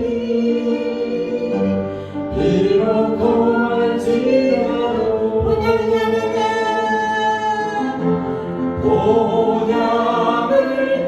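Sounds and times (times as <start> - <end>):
congregation singing a hymn: 0.0 - 11.0
instrumental accompaniment: 0.0 - 11.0.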